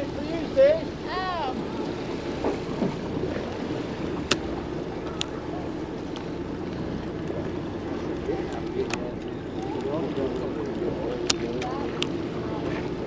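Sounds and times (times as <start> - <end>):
boat engine rumble: 0.0 - 13.0
water noise: 0.0 - 13.0
wind: 0.0 - 13.0.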